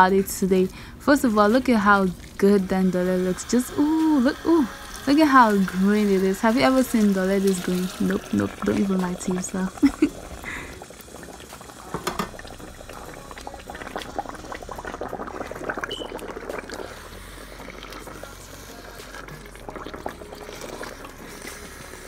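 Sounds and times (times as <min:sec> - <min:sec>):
thick stew bubbling in a pot: 0:00.4 - 0:22.0.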